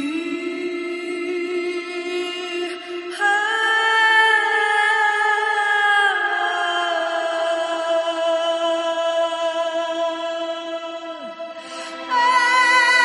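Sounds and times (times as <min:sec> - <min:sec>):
slow music of long held notes: 0:00.0 - 0:13.0.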